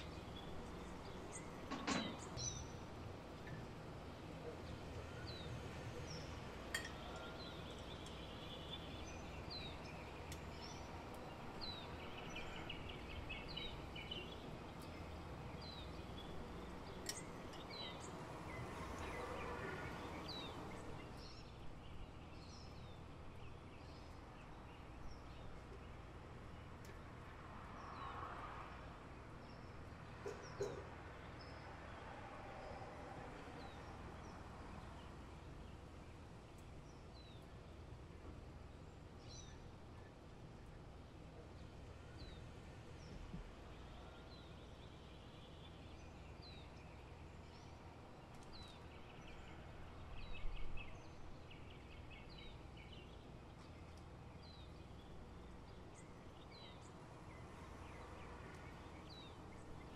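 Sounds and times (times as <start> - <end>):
faint birds chirping: 0.0 - 59.9.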